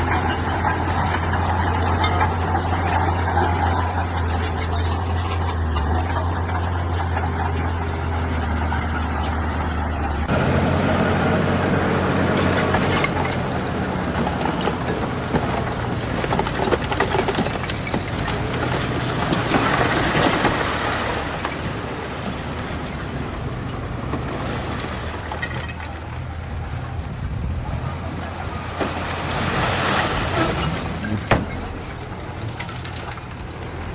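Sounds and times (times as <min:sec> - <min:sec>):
metallic clanks and rattles: 0:00.0 - 0:10.6, 0:12.2 - 0:21.8, 0:25.1 - 0:27.0, 0:28.2 - 0:33.9
diesel construction machine running: 0:00.0 - 0:33.9.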